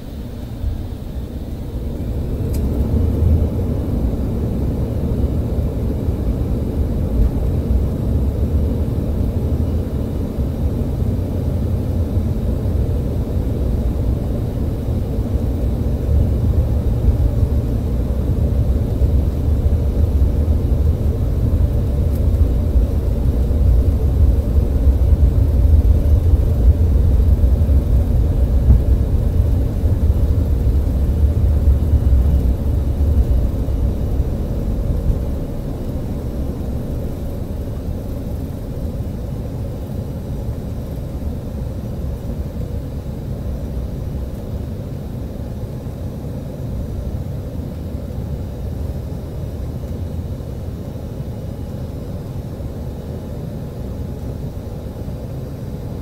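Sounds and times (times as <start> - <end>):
wheels rumbling on runway: 0.0 - 48.0
jet engines spooling up: 0.0 - 55.9.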